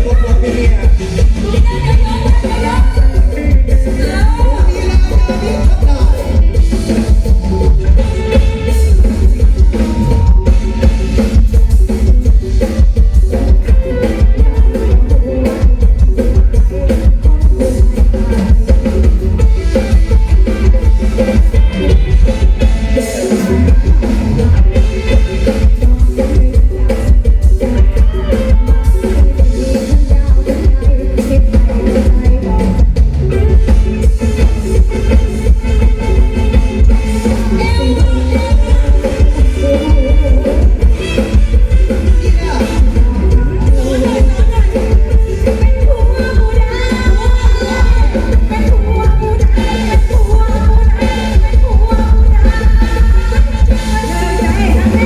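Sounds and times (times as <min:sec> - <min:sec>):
drum kit steady beat: 0:00.0 - 0:55.0
heavy bass: 0:00.0 - 0:55.0
live band music: 0:00.0 - 0:55.0.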